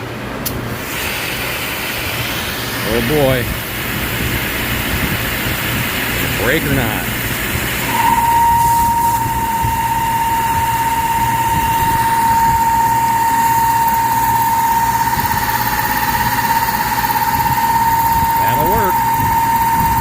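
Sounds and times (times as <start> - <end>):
milling cutter high whine: 2.1 - 20.0
milling machine running: 2.1 - 20.0.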